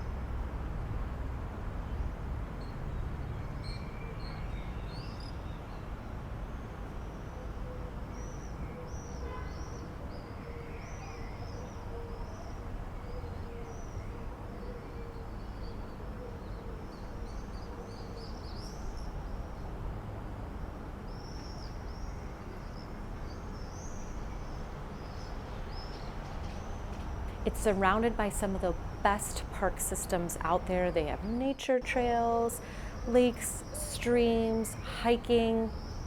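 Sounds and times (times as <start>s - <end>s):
songbirds chirping: 1.8s - 36.0s.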